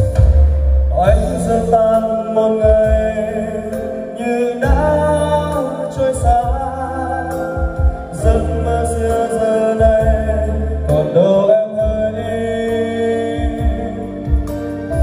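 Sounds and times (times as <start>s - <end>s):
backing track with bass and beat: 0.0s - 15.0s
man singing karaoke: 0.9s - 15.0s.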